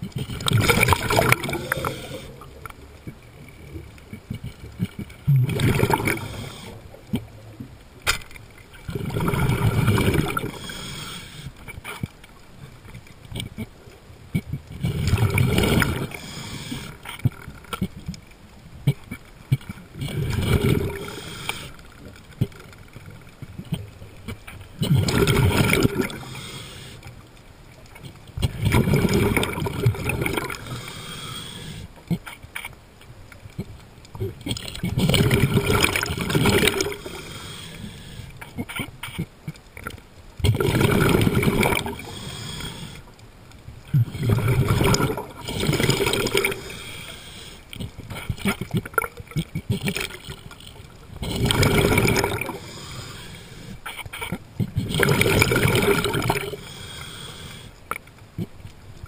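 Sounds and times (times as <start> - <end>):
exhaled bubbles gurgling: 0.0 - 12.1, 13.2 - 18.1, 18.7 - 26.9, 27.7 - 32.3, 33.5 - 43.0, 43.8 - 59.0
quiet water sound: 0.0 - 59.0.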